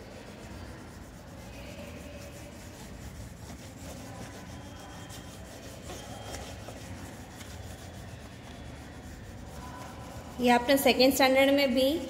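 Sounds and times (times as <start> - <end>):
crayon scribbling on paper: 0.0 - 10.8.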